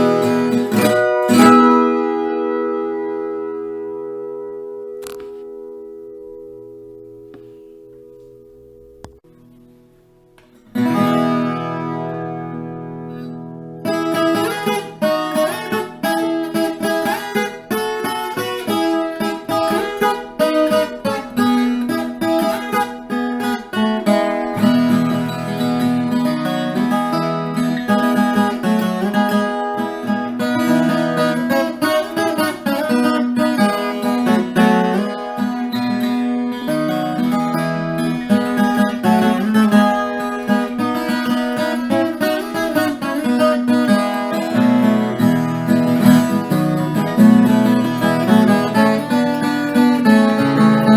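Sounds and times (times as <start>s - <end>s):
acoustic guitar: 0.0s - 50.9s.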